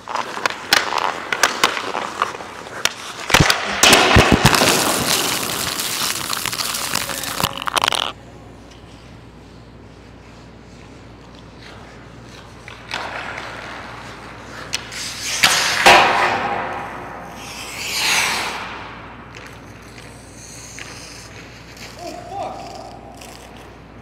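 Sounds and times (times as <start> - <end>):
skate blades scraping on ice: 0.0 - 8.2, 8.9 - 23.8
hockey stick and puck clicks: 0.0 - 8.9, 11.2 - 23.8.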